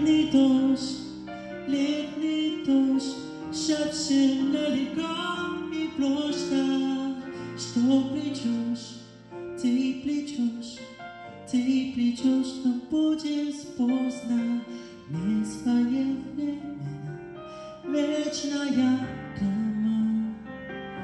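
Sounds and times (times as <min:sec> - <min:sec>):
man singing into microphone: 0:00.0 - 0:17.2, 0:17.8 - 0:20.6
instrumental backing track: 0:00.0 - 0:21.0.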